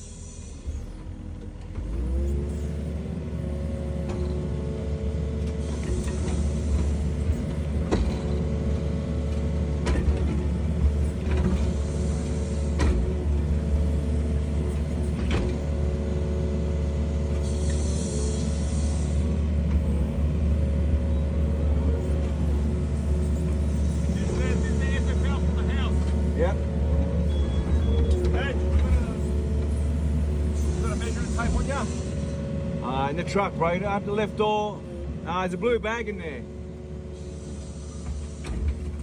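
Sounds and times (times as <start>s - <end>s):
excavator diesel engine revving: 0.0s - 39.0s.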